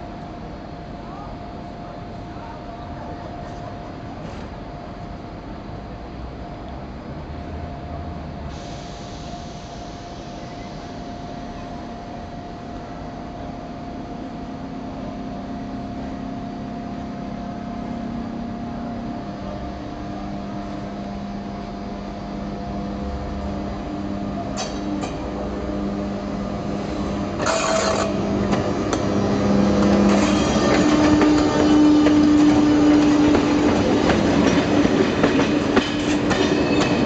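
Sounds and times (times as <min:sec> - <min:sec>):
electric locomotive hum and fan: 0:00.0 - 0:37.0.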